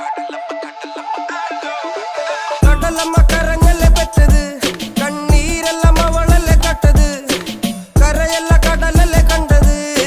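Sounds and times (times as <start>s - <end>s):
electronic synth music: 0.0s - 10.0s.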